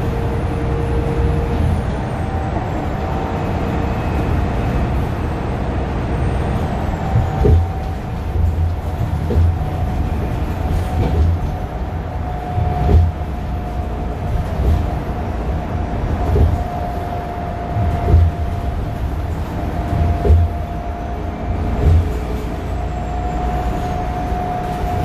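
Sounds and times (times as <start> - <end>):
bus engine running: 0.0 - 25.0
road rumble: 0.0 - 25.0.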